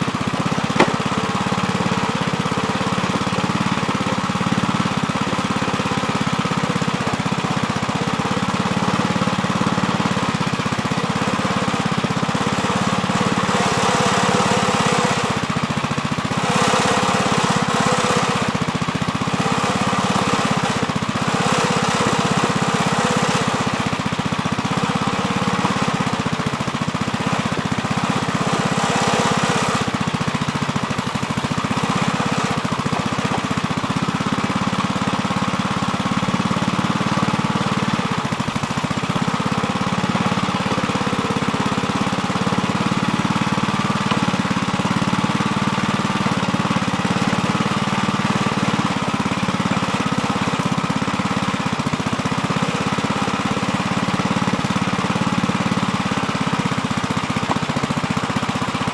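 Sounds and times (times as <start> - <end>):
backhoe engine running: 0.0 - 58.9.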